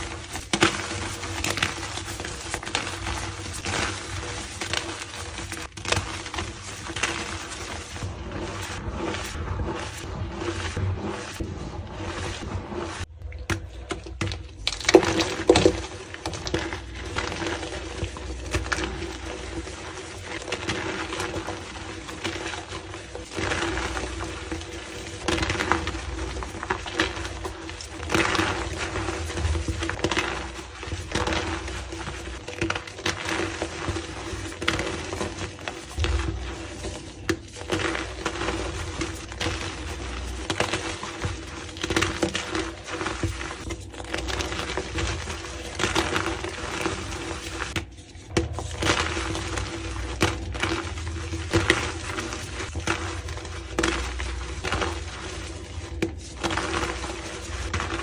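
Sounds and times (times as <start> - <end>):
chalk crunching and crackling: 0.0 - 58.0.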